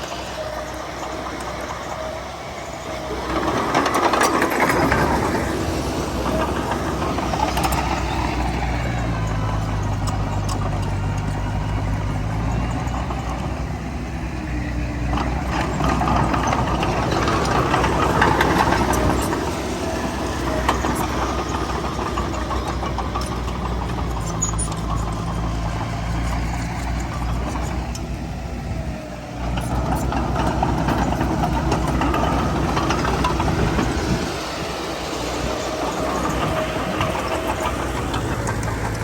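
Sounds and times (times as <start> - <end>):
diesel machinery running: 0.0 - 39.0.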